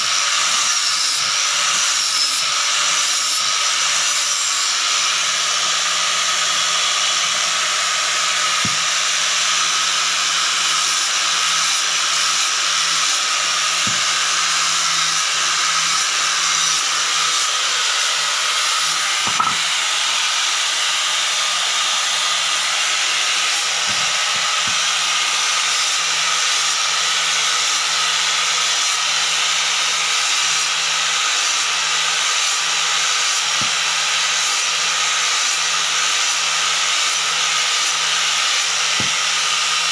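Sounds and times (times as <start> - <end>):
angle grinder sanding wood: 0.0 - 39.9.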